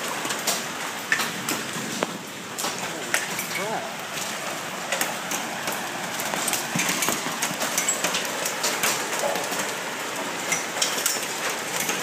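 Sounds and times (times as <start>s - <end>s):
hailstones clicking: 0.0s - 12.0s
rain hissing: 0.0s - 12.0s.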